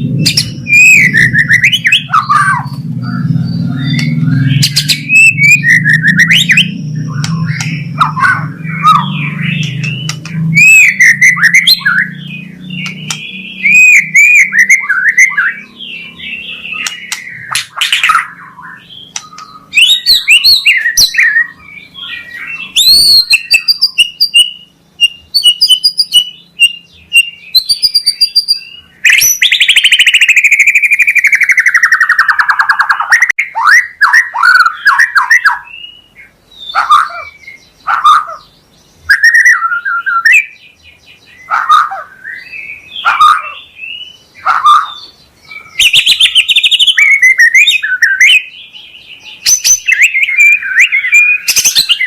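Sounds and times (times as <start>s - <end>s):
bird singing: 0.0s - 52.0s
loud harsh bird call: 0.0s - 52.0s.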